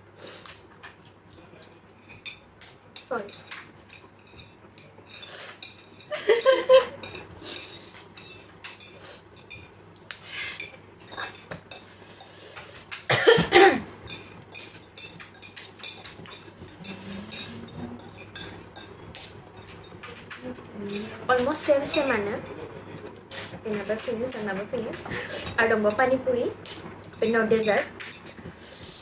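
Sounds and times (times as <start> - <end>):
cutlery clinking against dish: 0.5 - 29.0.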